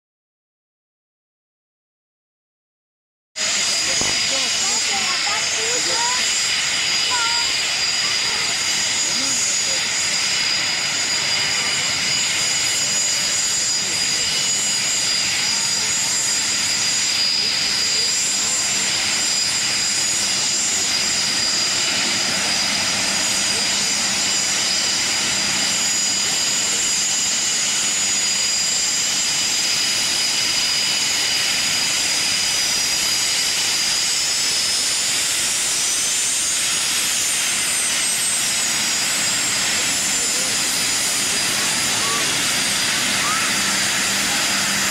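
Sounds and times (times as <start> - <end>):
jet engines whining: 3.4 - 44.9
jet rushing noise: 3.4 - 44.9.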